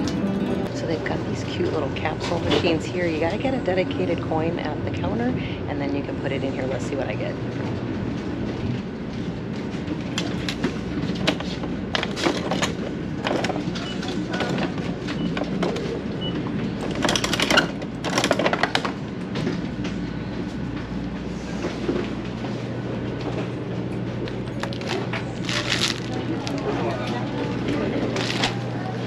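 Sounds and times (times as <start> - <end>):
train low rumble: 0.0 - 29.0.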